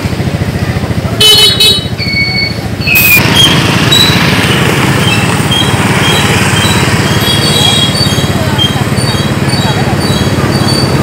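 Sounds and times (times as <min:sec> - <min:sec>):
motorbike engine rumbling: 0:00.0 - 0:11.0
short high squeaks: 0:01.8 - 0:11.0
high-pitched squeal: 0:02.0 - 0:11.0.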